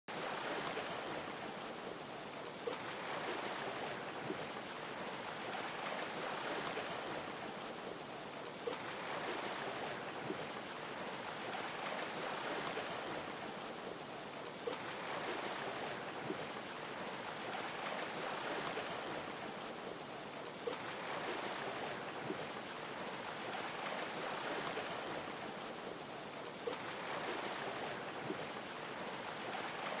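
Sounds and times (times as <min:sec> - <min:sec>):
sea waves washing: 0:00.1 - 0:30.0.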